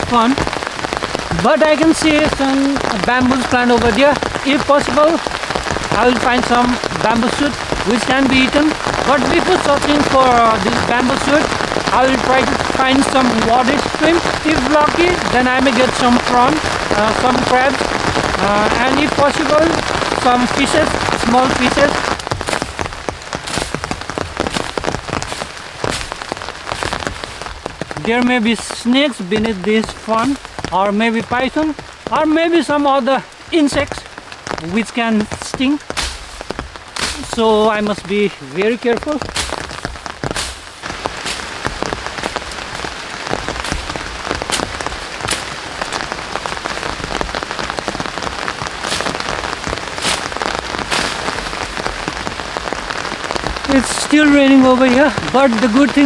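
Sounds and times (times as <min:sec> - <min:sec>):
heavy rain: 0:00.0 - 0:56.0
raindrops ticking: 0:00.0 - 0:56.0.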